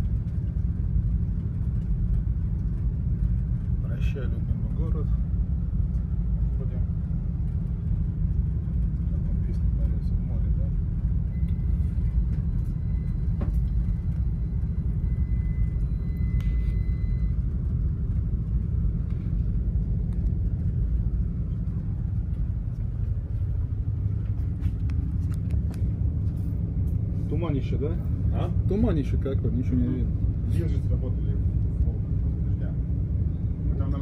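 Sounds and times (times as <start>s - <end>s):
ship low rumble: 0.0s - 34.0s.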